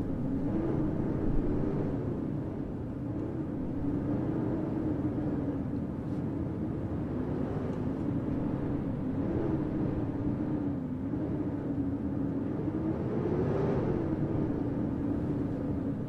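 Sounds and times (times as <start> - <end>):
blizzard wind howling: 0.0 - 16.0.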